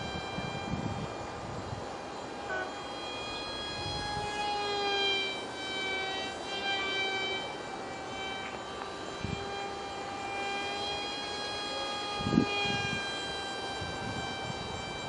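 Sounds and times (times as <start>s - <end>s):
small propeller motor whine: 0.0s - 15.0s.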